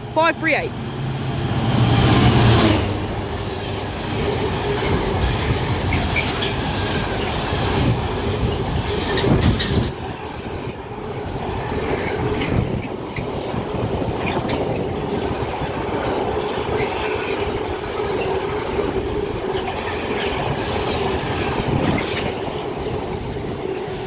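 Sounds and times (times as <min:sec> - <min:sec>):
diesel locomotive engine hum: 0:00.0 - 0:24.0
wheels clicking over rail joints: 0:04.1 - 0:24.0.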